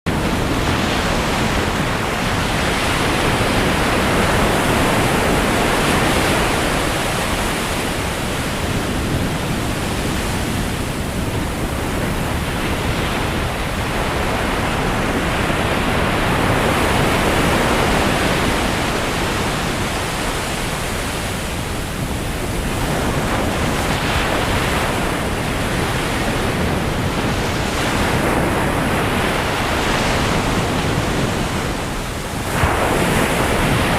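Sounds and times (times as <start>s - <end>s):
sea waves breaking on shore: 0.1s - 33.9s
wind on microphone: 0.1s - 33.9s.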